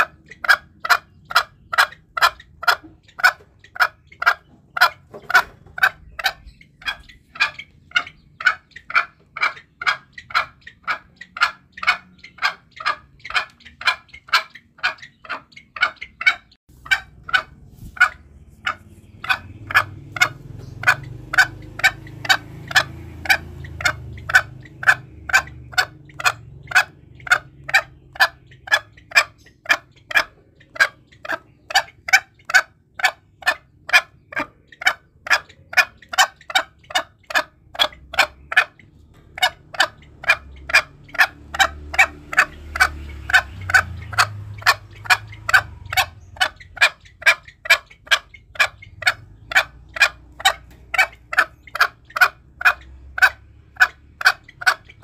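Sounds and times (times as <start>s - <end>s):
junglefowl calling: 0.0s - 55.0s.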